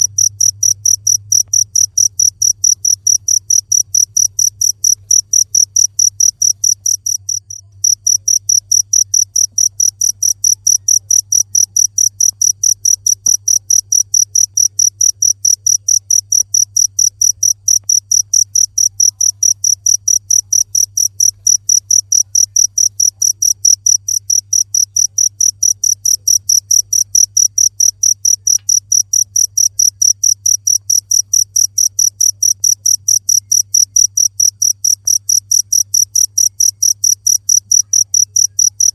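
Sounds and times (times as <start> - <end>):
cricket chirping: 0.0 - 38.9
faint low hum: 0.0 - 38.9.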